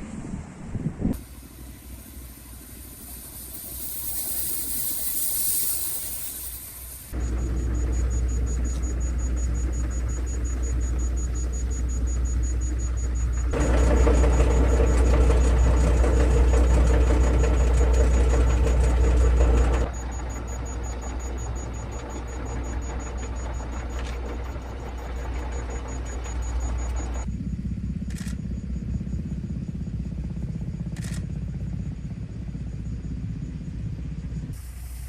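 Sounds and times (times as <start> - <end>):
engine idling: 1.2 - 35.0.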